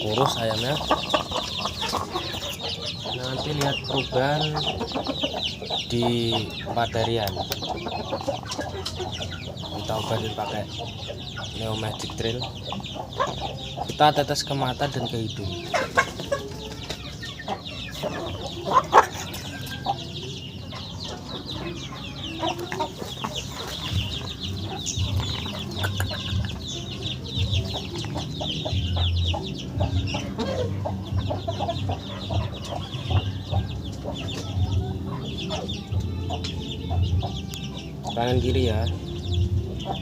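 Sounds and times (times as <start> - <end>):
chickens clucking and chirping: 0.0 - 40.0.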